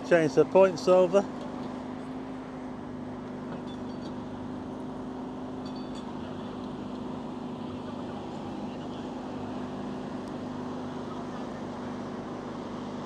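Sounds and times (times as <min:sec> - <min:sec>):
traffic noise: 0:00.0 - 0:13.0
wind: 0:00.0 - 0:13.0.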